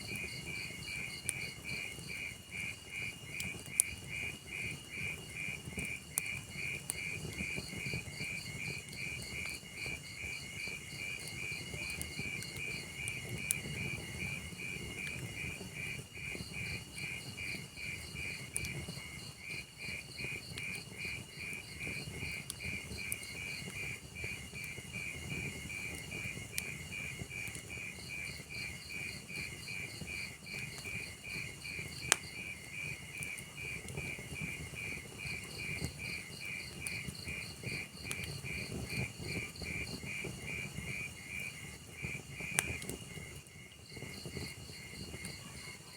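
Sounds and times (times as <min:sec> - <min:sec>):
log fire hissing and crackling: 0:00.0 - 0:45.9
crickets chirping: 0:06.5 - 0:45.9.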